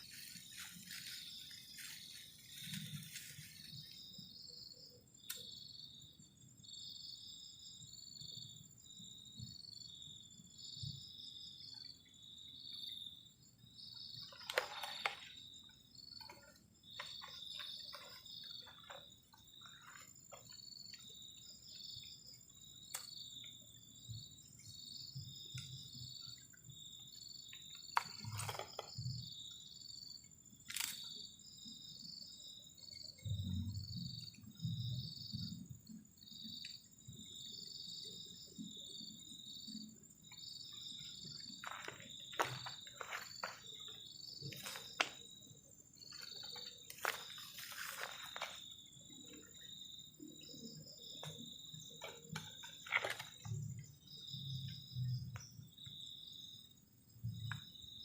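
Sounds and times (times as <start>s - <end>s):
crickets chirping: 0.0s - 58.0s
high-pitched insect whine: 0.0s - 58.0s.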